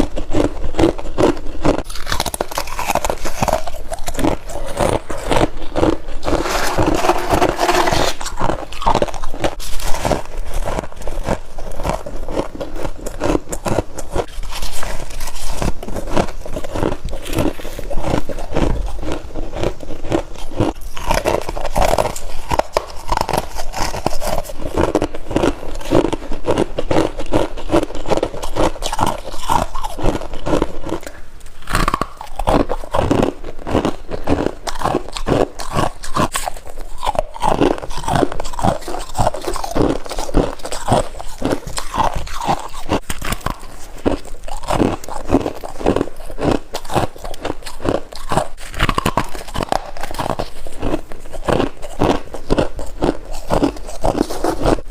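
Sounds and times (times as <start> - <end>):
frost crunching being chewed: 0.0 - 54.9.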